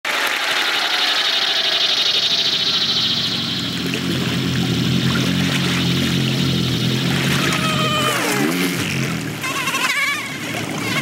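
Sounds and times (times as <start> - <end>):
high fluttering chirr: 0.1 - 11.0
low steady buzzing drone: 0.1 - 11.0.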